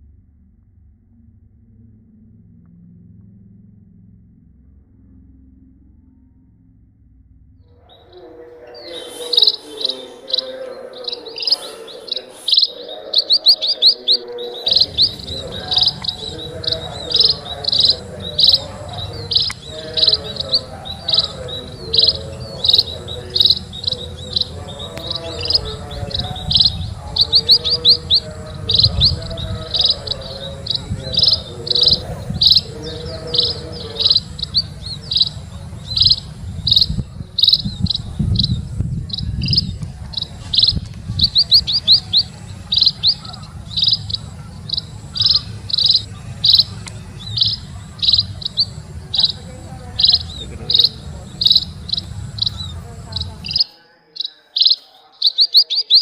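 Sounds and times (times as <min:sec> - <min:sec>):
small bird chirping: 0:07.7 - 0:56.0.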